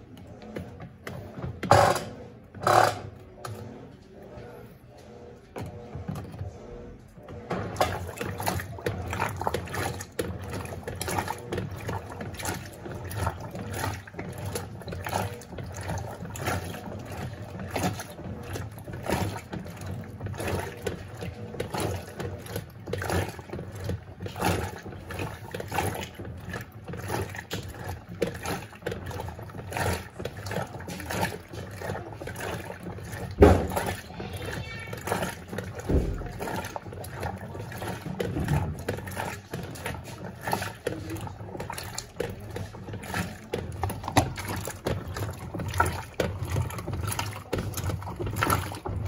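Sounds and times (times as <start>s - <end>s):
motor hum: 0.0s - 49.0s
washing machine sloshing: 0.0s - 49.0s.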